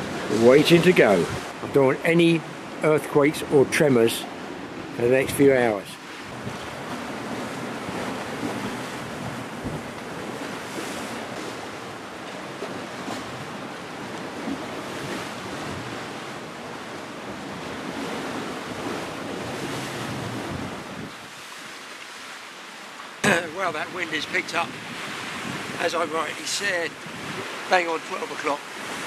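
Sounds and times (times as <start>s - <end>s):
wind buffeting microphone: 0.0s - 2.8s, 3.6s - 21.4s, 23.3s - 27.7s
waves washing on rocky shore: 0.0s - 29.0s.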